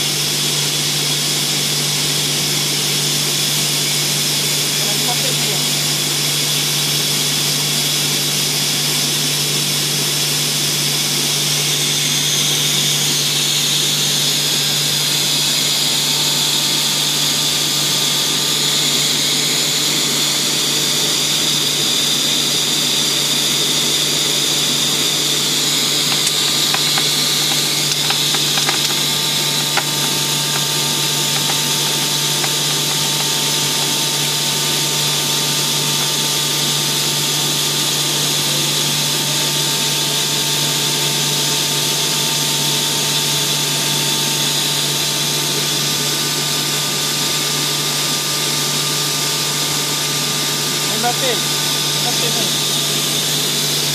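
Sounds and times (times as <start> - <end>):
motor hum: 0.0 - 46.2.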